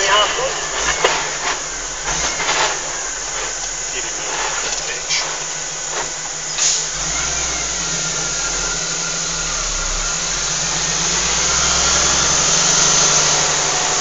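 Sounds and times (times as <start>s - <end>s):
diesel truck engine at low revs: 0.0s - 14.0s.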